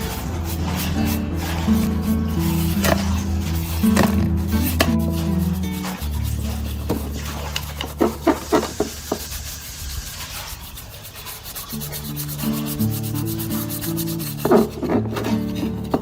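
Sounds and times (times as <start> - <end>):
background music: 0.0 - 9.2, 11.7 - 16.0
hand sanding strokes: 0.0 - 16.0.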